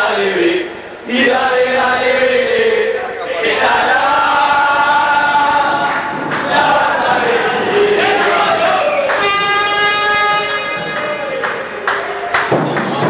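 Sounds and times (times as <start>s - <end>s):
crowd chanting a song: 0.0s - 11.8s.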